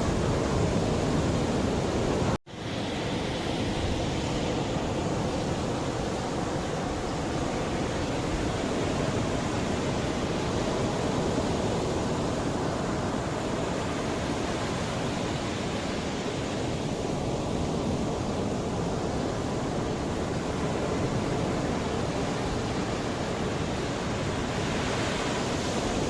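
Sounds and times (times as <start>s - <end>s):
sea waves washing onto shore: 0.0s - 26.0s.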